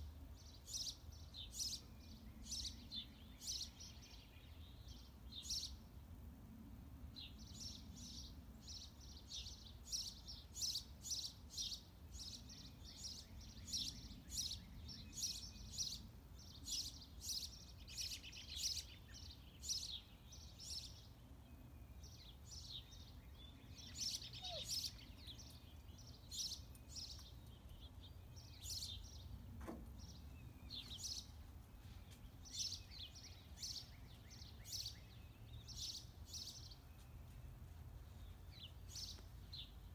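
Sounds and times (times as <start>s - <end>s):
small birds chirping: 0.0s - 5.9s, 7.2s - 39.9s.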